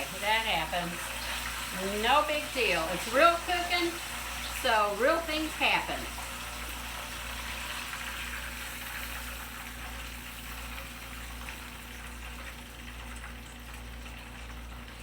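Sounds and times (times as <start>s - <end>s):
fish sizzling in frying oil: 0.0s - 15.0s.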